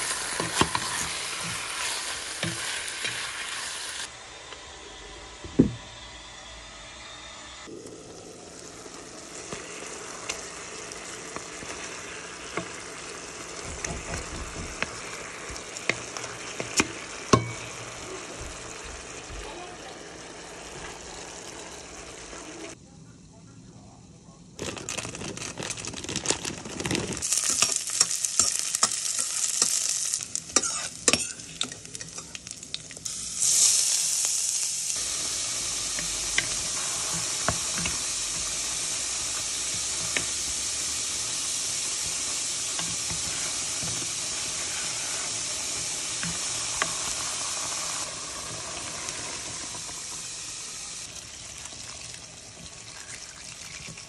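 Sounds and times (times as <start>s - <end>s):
food sizzling in hot oil: 0.0s - 4.1s, 7.6s - 22.8s, 24.6s - 54.0s.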